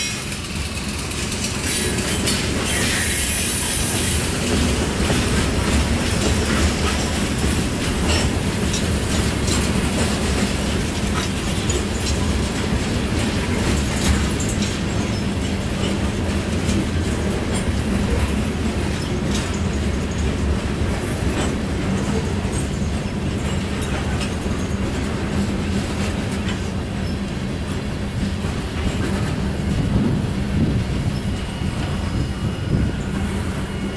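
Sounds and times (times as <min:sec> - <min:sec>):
freight train rumbling: 0:00.0 - 0:33.9
train wheels clacking: 0:00.0 - 0:33.9.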